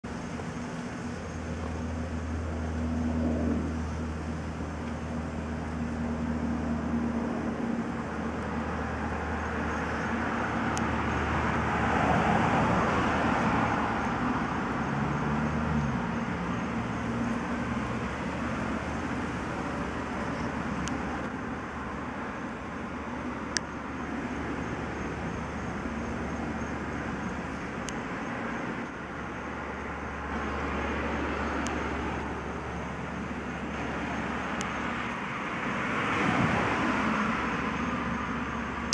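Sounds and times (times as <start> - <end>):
steady low hum: 0.0 - 38.9
vehicle passing: 1.3 - 38.9.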